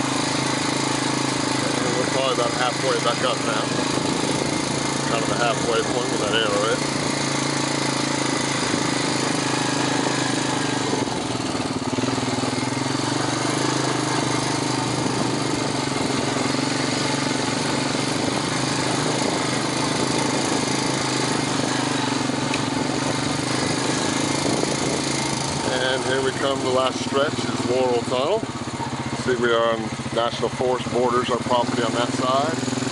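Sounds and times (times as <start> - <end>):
atv engine droning: 0.0 - 32.9
rush of ride noise: 0.0 - 32.9.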